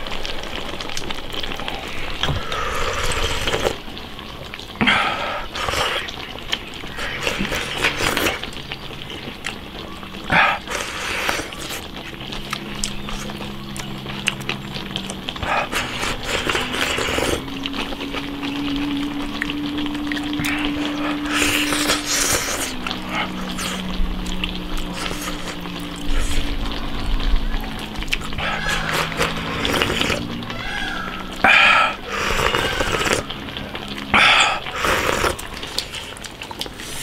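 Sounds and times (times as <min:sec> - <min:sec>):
wet slurping and chewing: 0:00.0 - 0:37.0.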